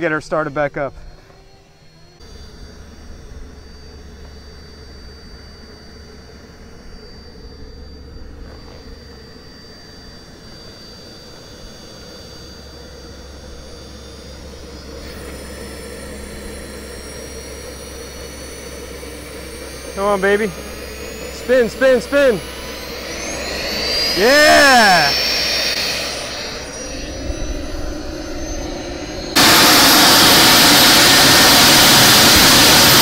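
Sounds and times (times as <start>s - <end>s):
jet turbine whine: 0.0s - 33.0s.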